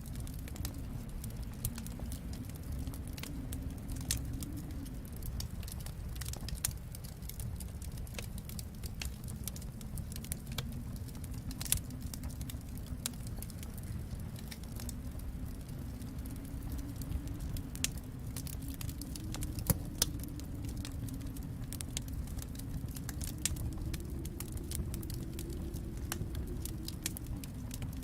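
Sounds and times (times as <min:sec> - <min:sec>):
low rumble: 0:00.0 - 0:28.0
wood fire crackling: 0:00.0 - 0:28.0.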